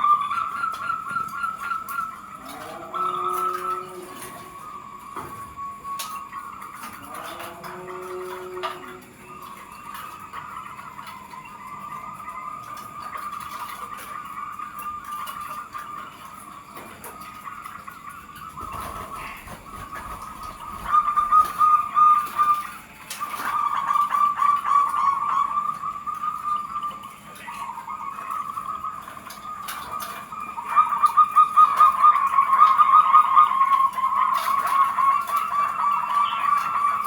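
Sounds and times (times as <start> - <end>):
doves cooing: 0.0 - 37.0.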